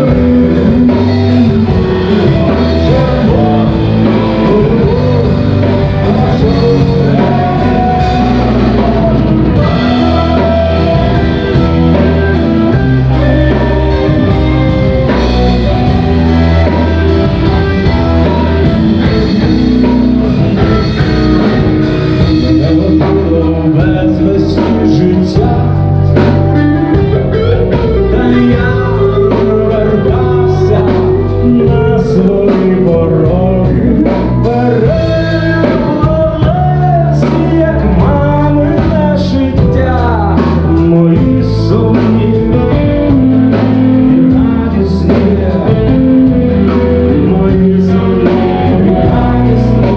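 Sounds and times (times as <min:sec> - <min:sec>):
person singing: 0:00.0 - 0:49.9
rock band playing live: 0:00.0 - 0:49.9.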